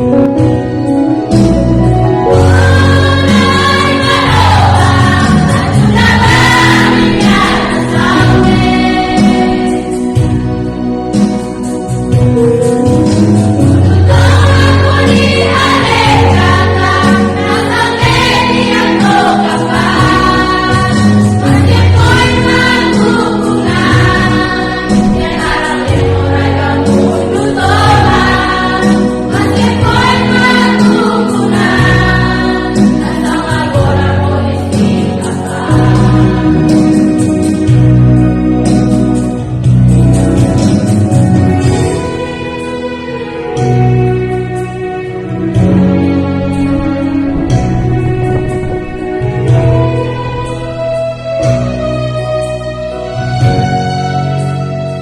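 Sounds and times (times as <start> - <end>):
choir singing a hymn: 0.0 - 55.0
instrumental backing with bass and guitar: 0.0 - 55.0.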